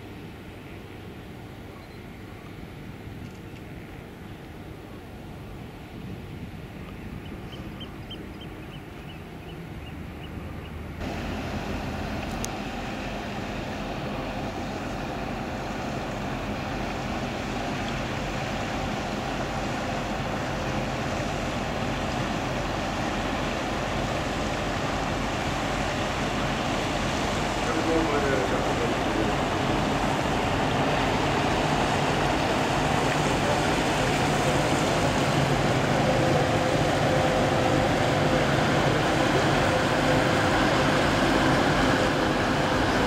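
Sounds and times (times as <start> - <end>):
rushing water: 0.0 - 43.0
ship engine noise: 0.0 - 43.0.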